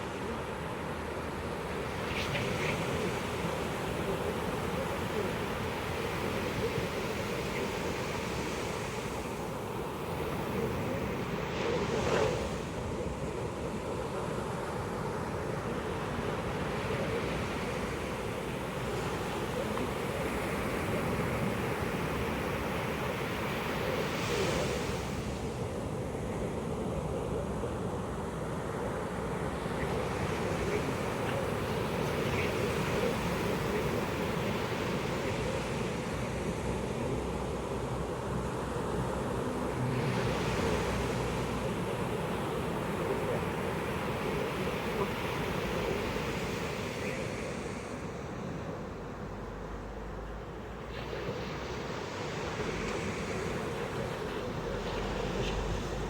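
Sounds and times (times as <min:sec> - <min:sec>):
ocean waves washing on beach: 0:00.0 - 0:56.0.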